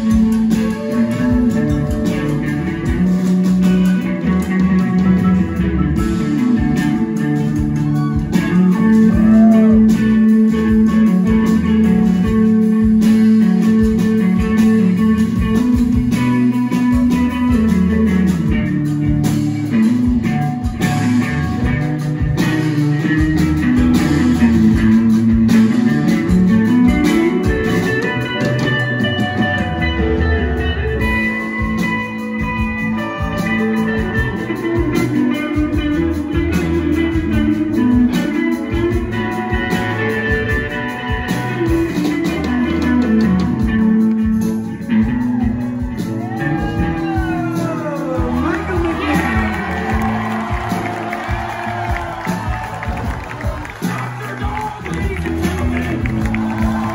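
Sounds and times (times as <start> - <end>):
electric guitar: 0.0 - 56.9
live rock band playing: 0.0 - 56.9.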